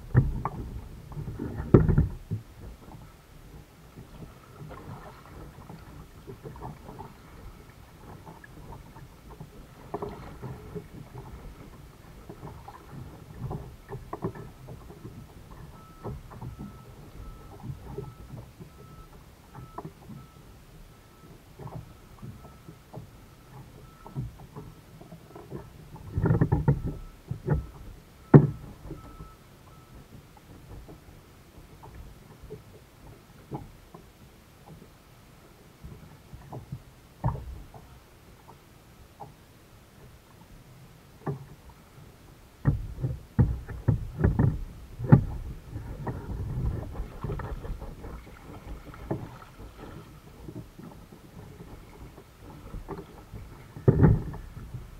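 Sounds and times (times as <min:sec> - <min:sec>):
knocks and thumps on plastic kayak: 0:00.0 - 0:35.0, 0:35.8 - 0:38.6, 0:41.2 - 0:42.0, 0:42.6 - 0:54.9
paddling and water sloshing: 0:00.0 - 0:54.9.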